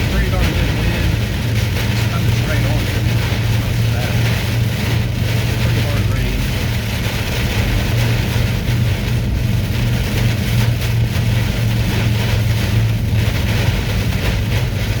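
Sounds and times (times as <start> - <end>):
heavy rain against truck: 0.0 - 15.0
truck engine drone: 0.0 - 15.0.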